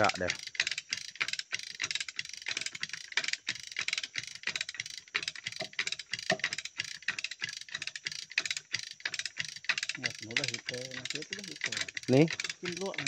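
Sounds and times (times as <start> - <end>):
ratchet winch clicking rapidly: 0.0 - 13.0.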